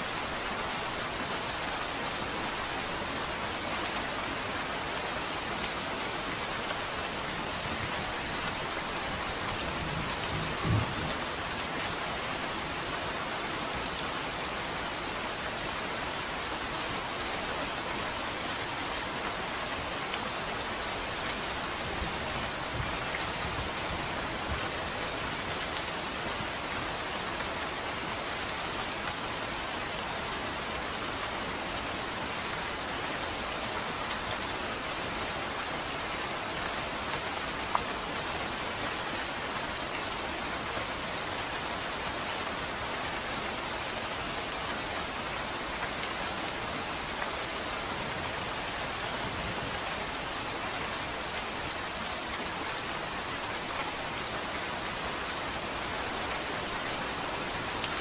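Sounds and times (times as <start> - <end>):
dense rain pattering: 0.0 - 58.0.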